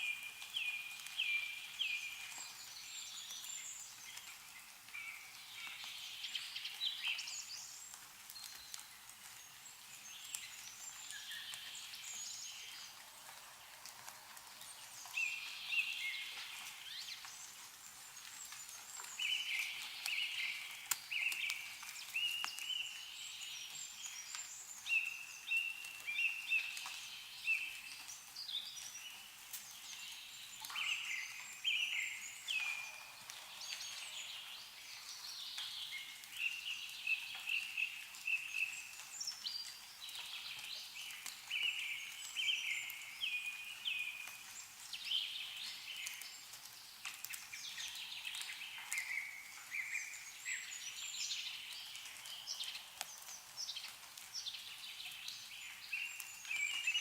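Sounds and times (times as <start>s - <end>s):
meltwater dripping: 0.0s - 57.0s
small songbirds chirping: 0.0s - 57.0s.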